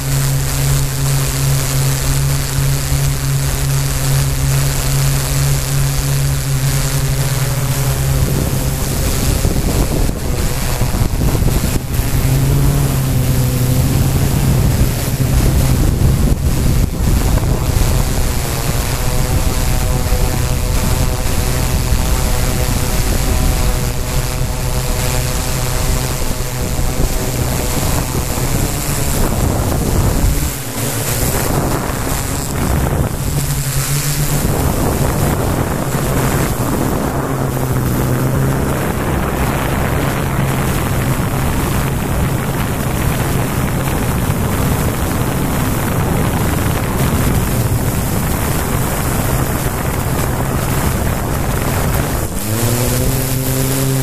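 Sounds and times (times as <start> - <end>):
drone motors whining: 0.0 - 54.0
wind on microphone: 0.0 - 54.0.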